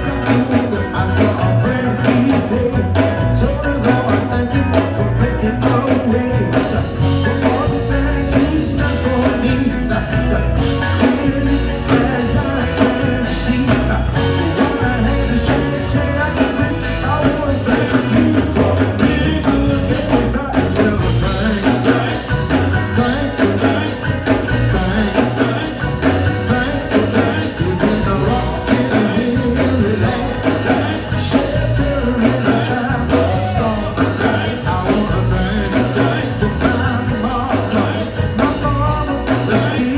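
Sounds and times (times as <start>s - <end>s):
band playing live: 0.0s - 39.9s
man singing: 0.0s - 39.9s.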